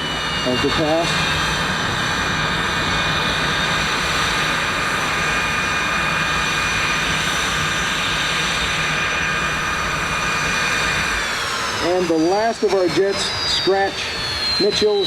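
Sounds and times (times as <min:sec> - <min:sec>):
jet engine whining at idle: 0:00.0 - 0:15.0.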